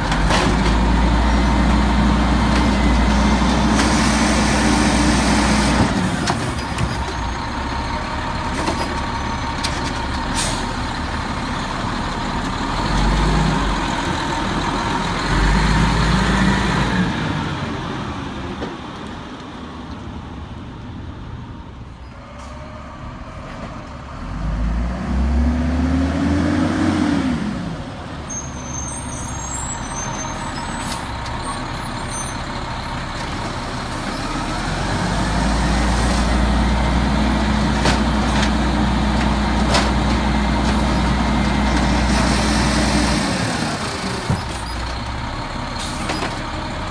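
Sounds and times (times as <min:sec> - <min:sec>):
diesel truck engine revving: 0:00.0 - 0:06.6, 0:10.1 - 0:18.4, 0:22.4 - 0:46.9.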